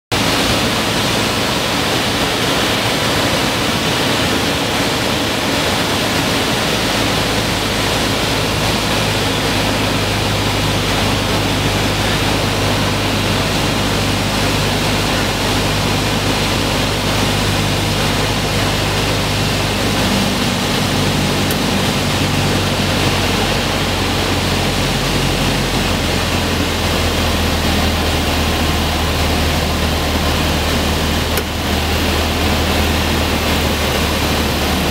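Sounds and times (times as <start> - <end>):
low engine drone: 0.1 - 34.9
rush of air: 0.1 - 34.9.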